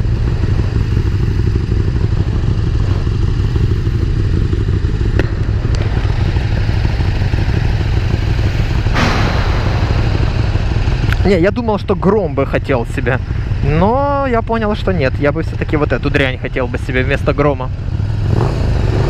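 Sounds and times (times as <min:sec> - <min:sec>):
motorcycle engine idling: 0:00.0 - 0:19.0
motorcycles idling: 0:00.0 - 0:19.0.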